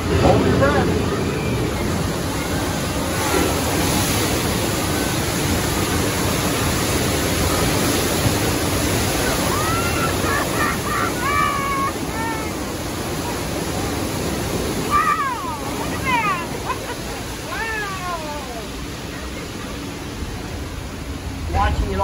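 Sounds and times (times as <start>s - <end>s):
rushing floodwater: 0.0s - 22.0s.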